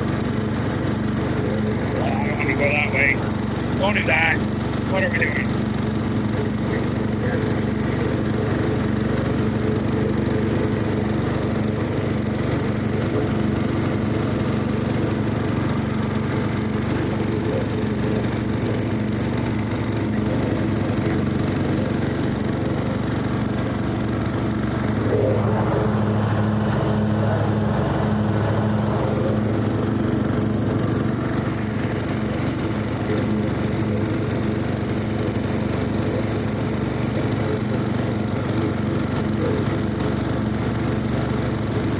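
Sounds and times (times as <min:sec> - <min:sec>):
riding lawn mower engine: 0:00.0 - 0:41.9.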